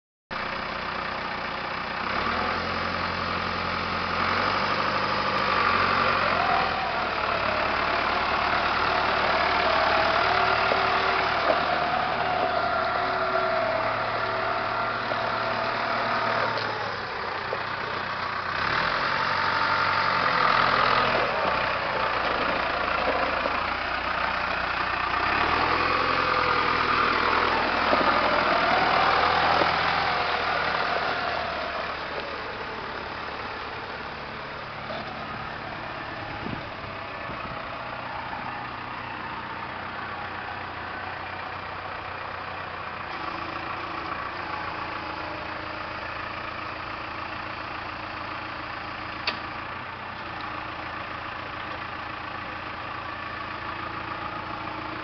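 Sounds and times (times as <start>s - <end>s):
tractor diesel engine idling: 0.3s - 55.0s.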